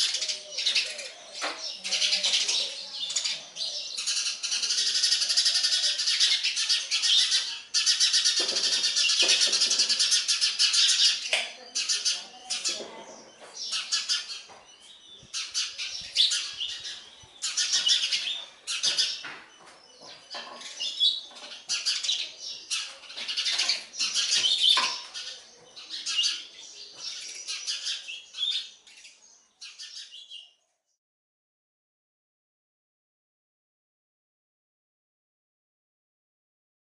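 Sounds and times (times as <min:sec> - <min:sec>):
sparrows chirping rapidly: 0:00.0 - 0:31.0.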